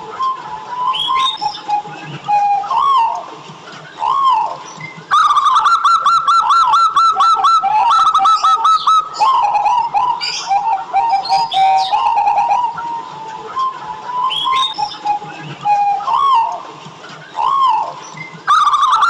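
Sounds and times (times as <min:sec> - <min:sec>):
dove cooing: 0:00.0 - 0:03.3, 0:03.9 - 0:16.6, 0:17.2 - 0:19.0
birds chirping: 0:00.0 - 0:19.0.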